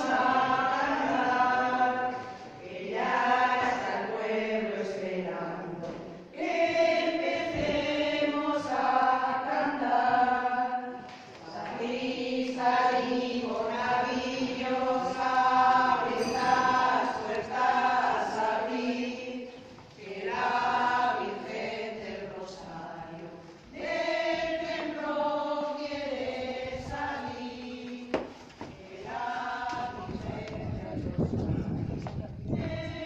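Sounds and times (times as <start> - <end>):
women singing a hymn: 0.0 - 33.0.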